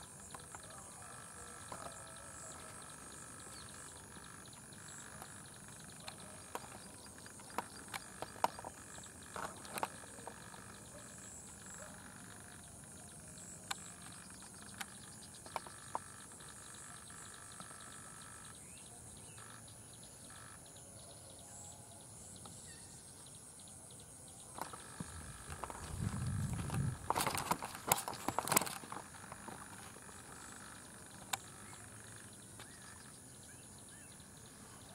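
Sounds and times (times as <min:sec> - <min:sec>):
high insect buzz: 0:00.0 - 0:34.9
low insect trill: 0:00.0 - 0:34.9.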